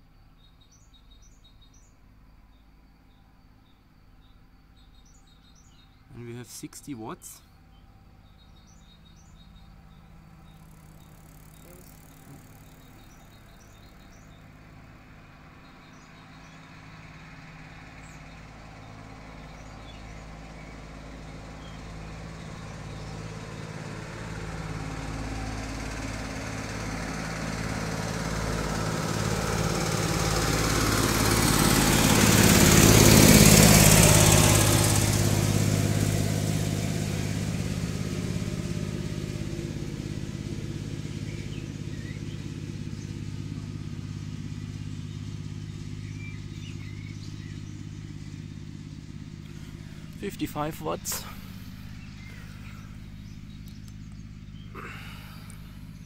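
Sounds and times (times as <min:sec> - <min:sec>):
motor engine passing by: 0:04.2 - 0:56.0.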